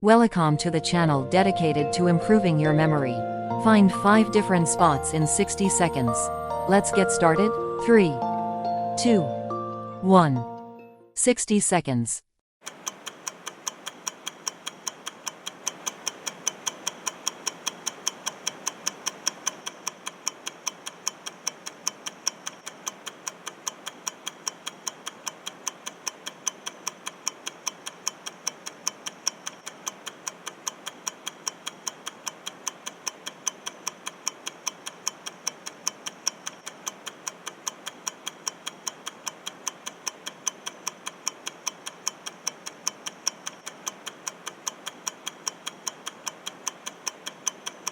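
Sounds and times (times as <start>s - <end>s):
timer clock ticking: 3.6s - 7.4s, 12.6s - 47.9s.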